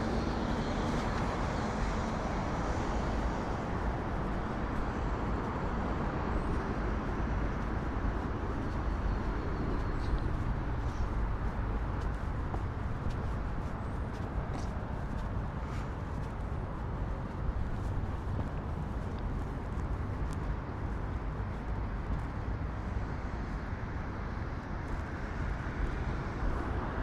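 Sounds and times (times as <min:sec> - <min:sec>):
city road traffic: 0:00.0 - 0:27.0.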